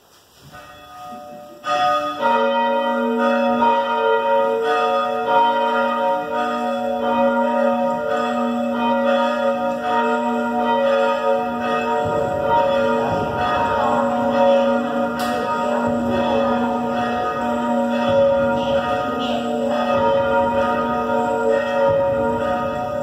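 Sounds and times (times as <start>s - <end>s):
church bells pealing: 0.5s - 23.0s.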